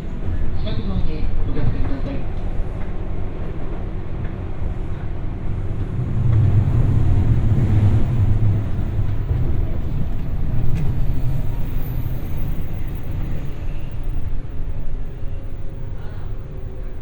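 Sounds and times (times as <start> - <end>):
train wheels and motors rumbling: 0.0 - 17.0.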